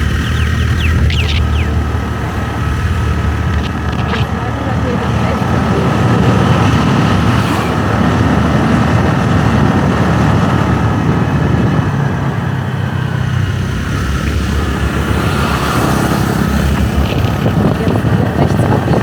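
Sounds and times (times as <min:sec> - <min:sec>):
motorbike engine running: 0:00.0 - 0:19.0
road noise rushing: 0:00.0 - 0:19.0.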